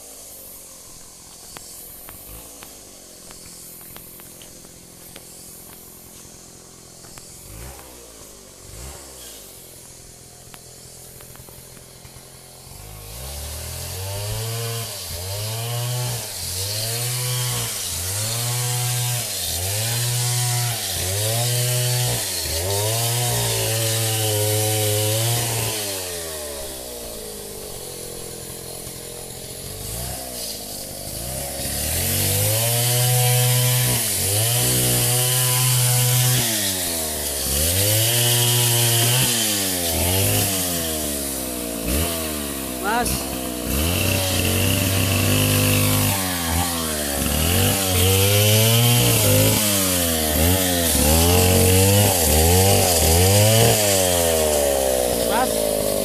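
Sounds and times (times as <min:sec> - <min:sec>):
chainsaw cutting timber: 0:00.0 - 0:56.0.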